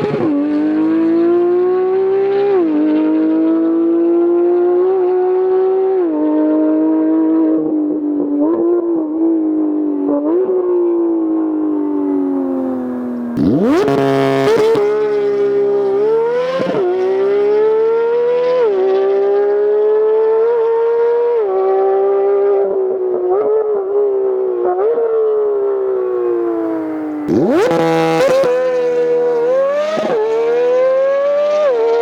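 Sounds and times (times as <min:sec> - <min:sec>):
sports car engine at high revs: 0:00.0 - 0:32.0.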